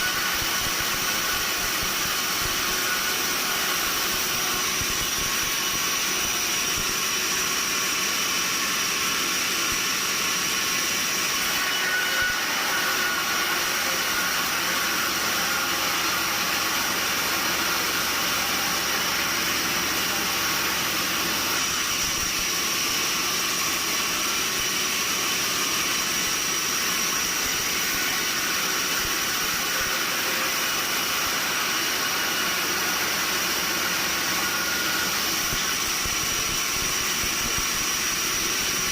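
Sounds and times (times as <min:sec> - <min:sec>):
high-pitched mechanical whine: 0:00.0 - 0:38.9
sawmill machinery running: 0:00.0 - 0:38.9.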